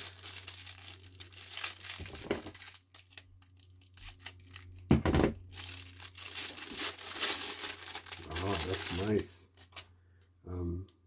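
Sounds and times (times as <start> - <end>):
packaging being torn and crumpled: 0.0 - 9.9.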